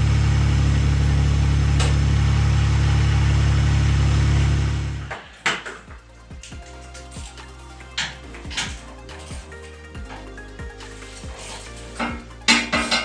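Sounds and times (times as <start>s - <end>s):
tractor engine idling: 0.0s - 5.1s, 5.9s - 13.0s.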